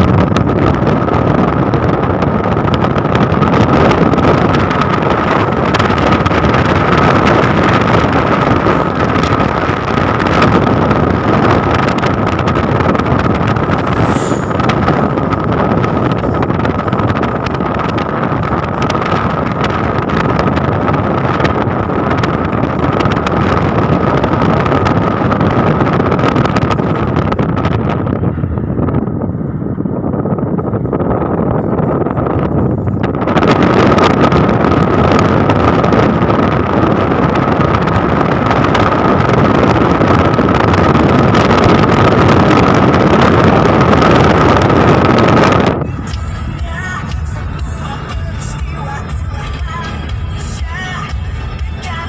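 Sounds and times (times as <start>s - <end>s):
road and tyre noise: 0.0s - 52.0s
steady high whine: 0.0s - 52.0s
wind rushing over microphone: 0.0s - 52.0s.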